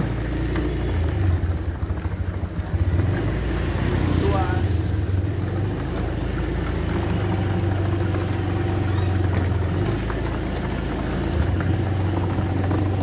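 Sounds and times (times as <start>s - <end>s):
casters rolling over road: 0.0s - 13.0s.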